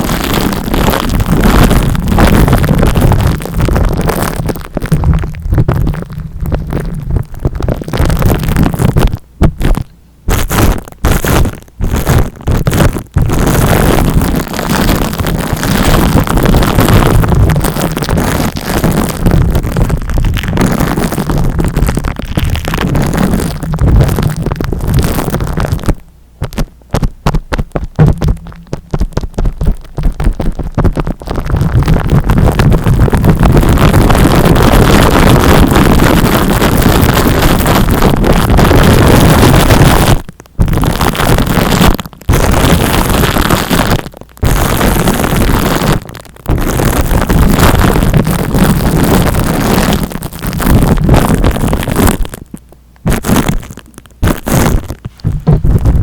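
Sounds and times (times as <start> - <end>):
rubbing on microphone: 0.0 - 56.0.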